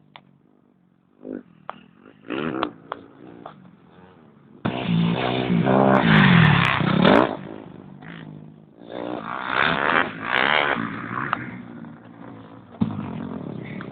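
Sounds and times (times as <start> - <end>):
dirt bike engine revving: 0.3 - 13.9.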